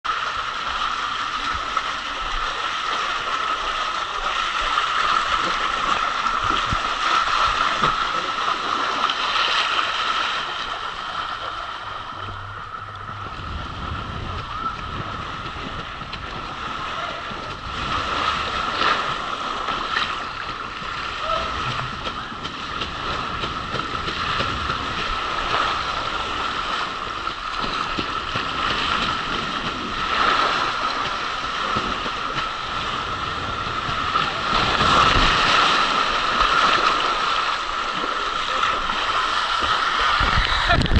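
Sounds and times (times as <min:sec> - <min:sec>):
water rushing down water slide: 0:00.1 - 0:40.9.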